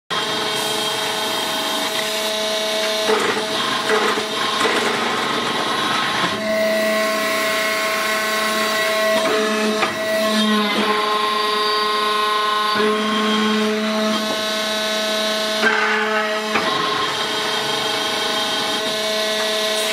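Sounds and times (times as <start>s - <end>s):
hydraulic press motor whine: 0.1s - 19.9s.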